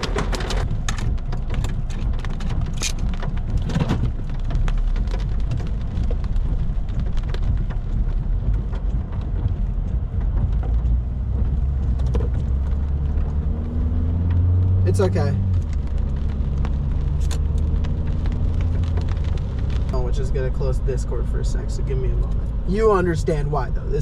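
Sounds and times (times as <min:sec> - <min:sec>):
rain tapping on car roof: 0:00.0 - 0:24.0
vehicle low rumble: 0:00.0 - 0:24.0.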